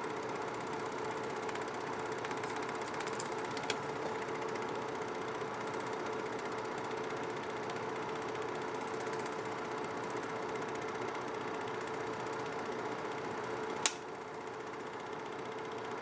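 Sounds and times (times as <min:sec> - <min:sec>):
film projector whirring and clattering: 0:00.0 - 0:16.0.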